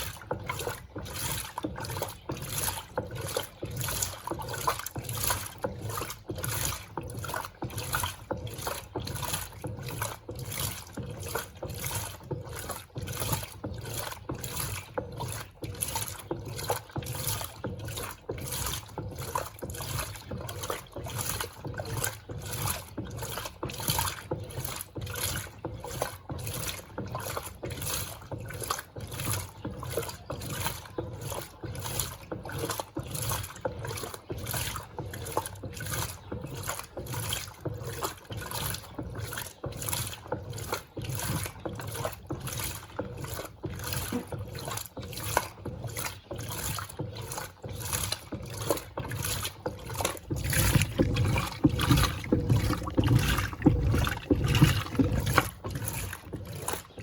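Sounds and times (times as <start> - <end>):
washing machine water sloshing: 0.0 - 57.0.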